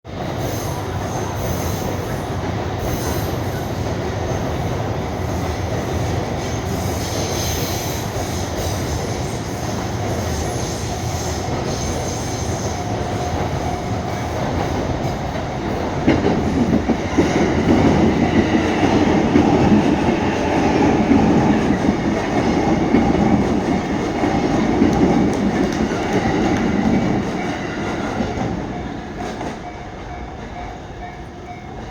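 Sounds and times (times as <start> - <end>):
electric trains passing: 0.1 - 31.9.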